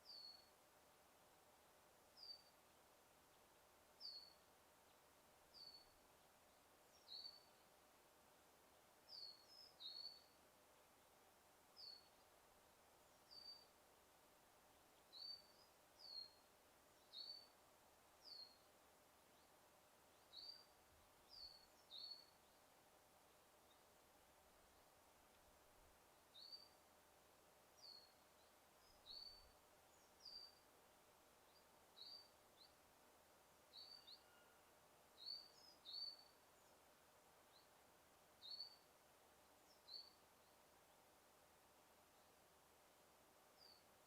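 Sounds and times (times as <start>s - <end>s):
faint steady hum: 0.0s - 44.0s
songbird chirping: 0.0s - 44.0s.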